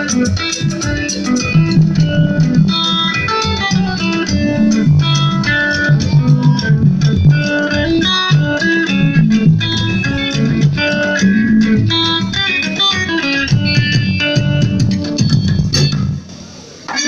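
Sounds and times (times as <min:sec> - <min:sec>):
electric guitar quick picked notes: 0:00.0 - 0:16.3
bass guitar: 0:00.0 - 0:16.7.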